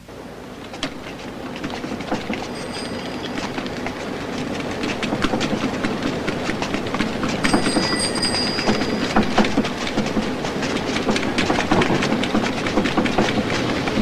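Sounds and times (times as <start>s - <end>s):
dense clattering and rattles: 0.7s - 14.0s.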